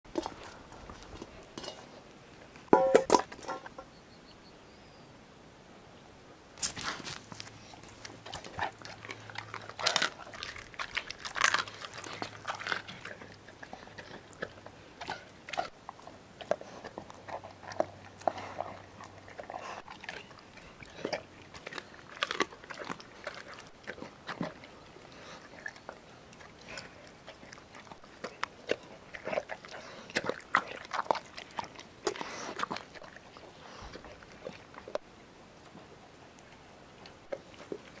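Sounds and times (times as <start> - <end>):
dog crunching and chewing food: 0.1 - 2.0, 6.6 - 35.8, 36.4 - 38.0.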